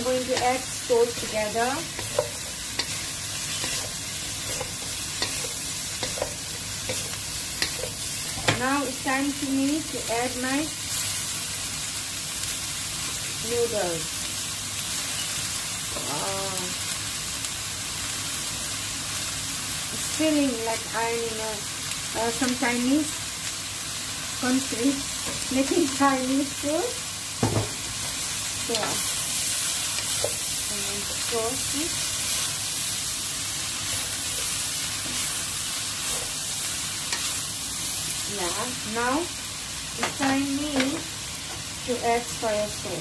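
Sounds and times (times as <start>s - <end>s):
food sizzling in a wok: 0.0s - 43.0s.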